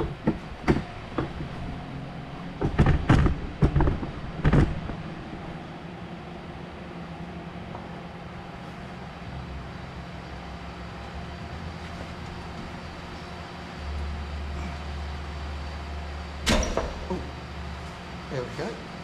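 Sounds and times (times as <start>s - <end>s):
deeper drone: 0.0s - 19.0s
low mechanical hum: 0.0s - 19.0s.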